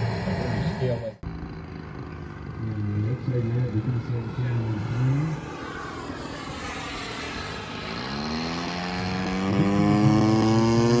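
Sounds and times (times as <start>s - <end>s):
model plane engines revving: 0.0s - 11.0s.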